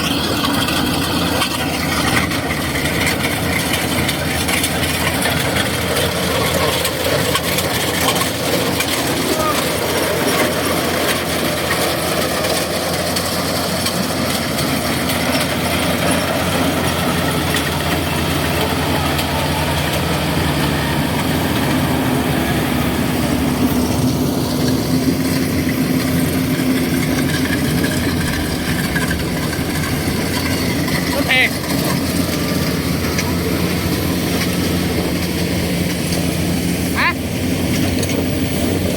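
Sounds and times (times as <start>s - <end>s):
combine harvester engine drone: 0.0s - 38.9s
harvesting machinery noise: 0.0s - 38.9s.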